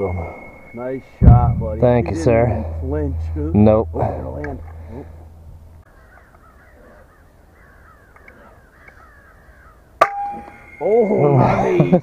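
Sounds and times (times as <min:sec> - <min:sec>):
crows calling faintly: 0:00.0 - 0:11.2.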